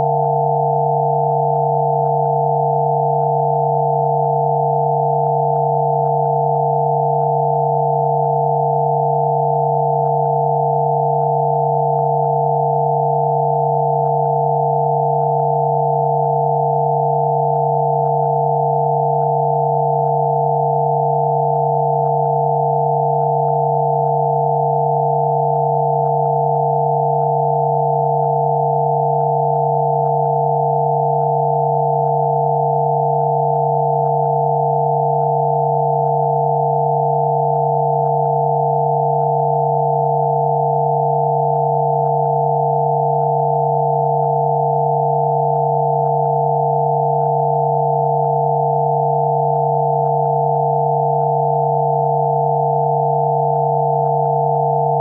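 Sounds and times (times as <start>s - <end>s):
electronic sine tones: 0.0s - 55.0s.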